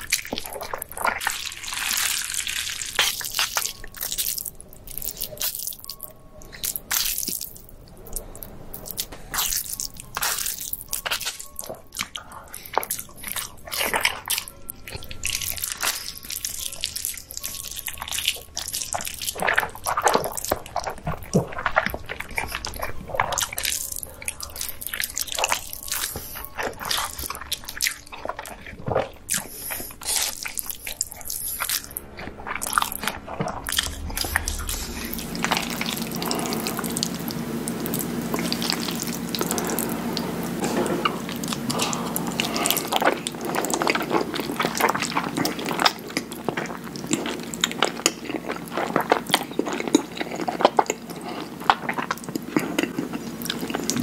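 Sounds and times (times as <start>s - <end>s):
faint steady hum: 0.0s - 54.0s
mouth slurping and chewing noodles: 0.0s - 54.0s
pasta slurped and chewed: 0.0s - 54.0s.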